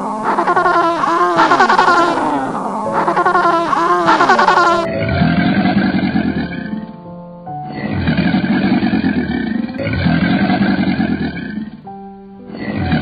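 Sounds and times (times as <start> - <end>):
crocodiles growling: 0.0 - 6.9, 7.7 - 11.8
background music: 0.0 - 13.0.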